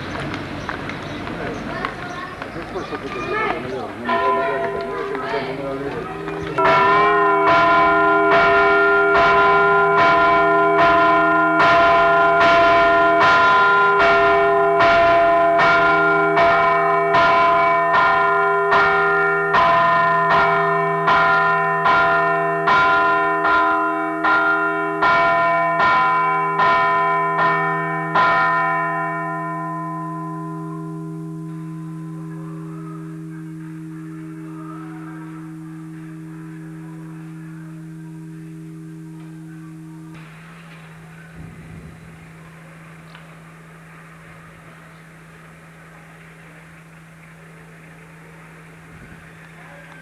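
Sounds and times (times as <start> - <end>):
church bell ringing: 2.9 - 50.0.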